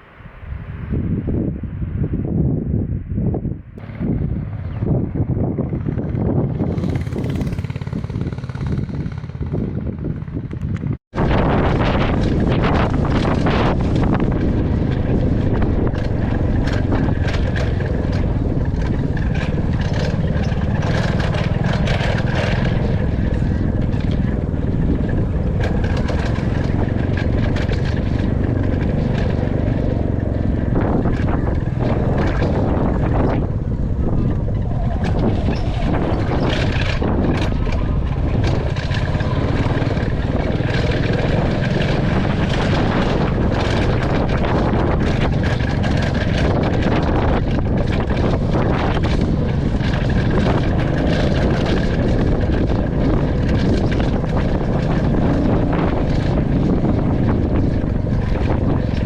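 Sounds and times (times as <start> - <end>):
motorcycle engine running: 3.8 - 59.0.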